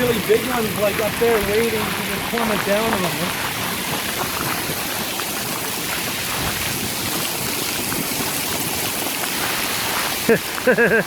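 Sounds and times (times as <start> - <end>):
heavy hail clattering: 0.0 - 11.0.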